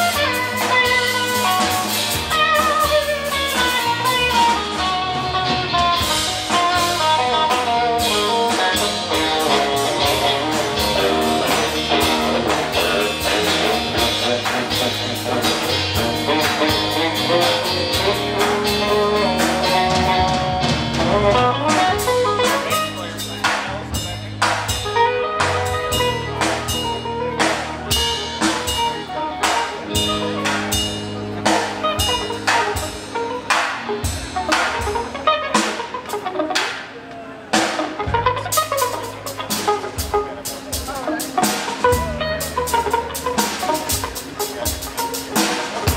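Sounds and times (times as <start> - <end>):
drum beat: 0.0 - 36.8, 37.6 - 45.9
bass guitar: 0.0 - 45.9
electric guitars: 0.0 - 45.9.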